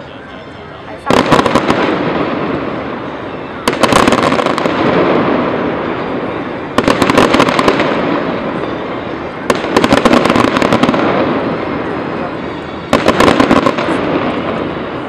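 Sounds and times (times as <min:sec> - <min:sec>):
fireworks rumble: 0:00.0 - 0:15.0
fireworks cracking: 0:00.9 - 0:15.0.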